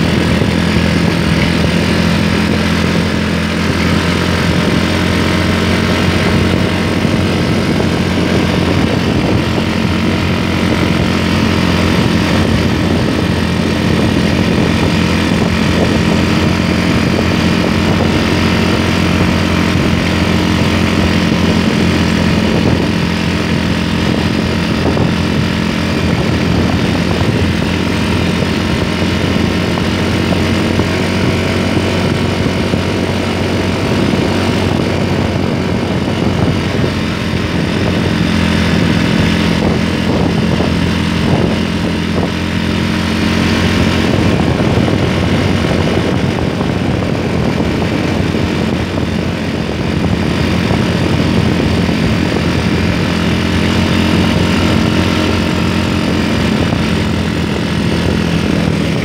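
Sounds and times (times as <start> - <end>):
motorcycle engine running: 0.0 - 59.0
road noise: 0.0 - 59.0
rushing wind: 0.0 - 59.0.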